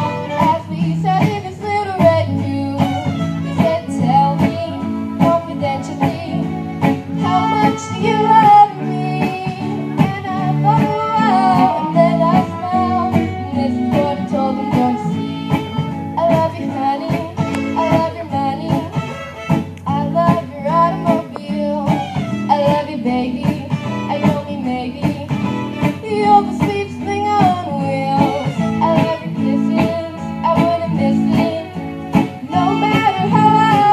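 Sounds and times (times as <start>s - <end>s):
fiddles playing a melody: 0.0s - 33.9s
strummed guitar: 0.0s - 33.9s.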